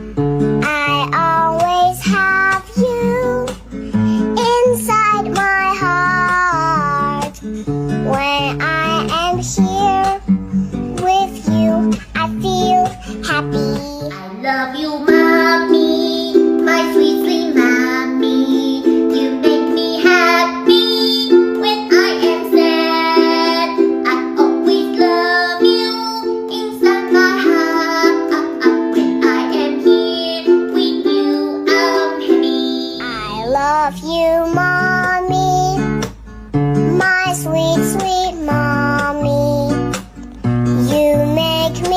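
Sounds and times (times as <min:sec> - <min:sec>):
strummed ukulele: 0:00.0 - 0:41.9
child singing: 0:00.6 - 0:03.7, 0:04.3 - 0:07.4, 0:08.0 - 0:10.3, 0:10.9 - 0:36.1, 0:36.8 - 0:40.0, 0:40.8 - 0:41.9.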